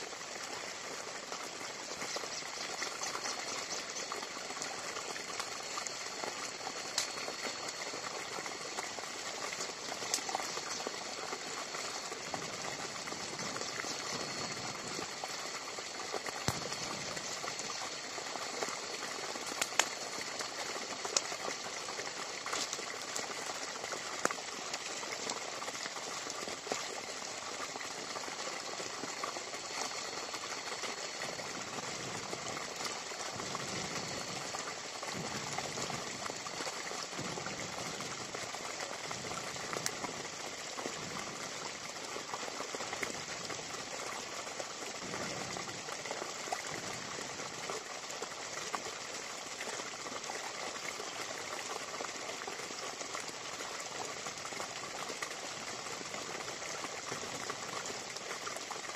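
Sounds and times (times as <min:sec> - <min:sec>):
wood fire hissing and crackling: 0:00.0 - 0:58.9.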